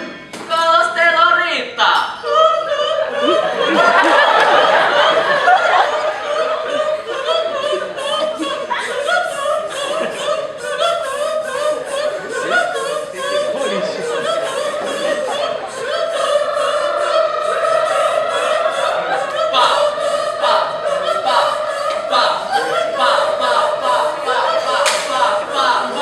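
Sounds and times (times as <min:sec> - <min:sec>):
voices singing a cappella: 0:00.0 - 0:26.0.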